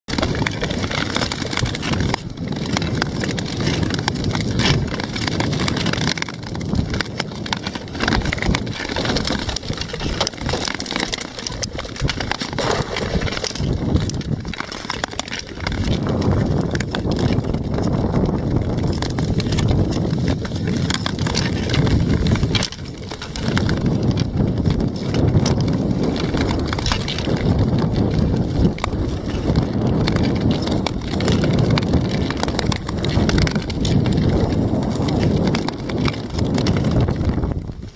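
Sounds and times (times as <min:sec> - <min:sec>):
ice skates scraping over ice: 0:00.1 - 0:37.9
wind on microphone: 0:00.1 - 0:37.9.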